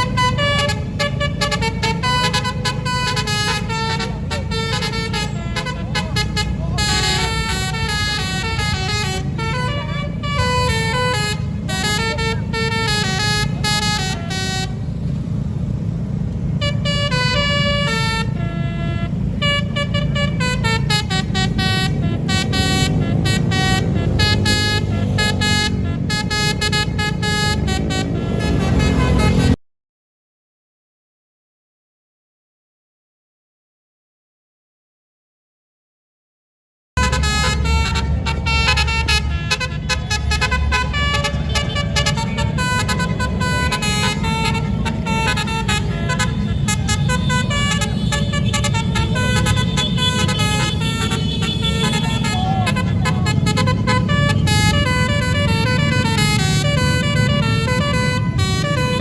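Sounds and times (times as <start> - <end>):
musical bus horn melody: 0.0 - 29.6, 37.0 - 59.0.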